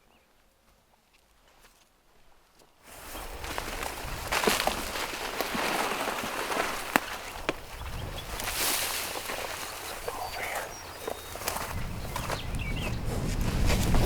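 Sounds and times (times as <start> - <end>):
footsteps through brush and grass: 1.3 - 14.0.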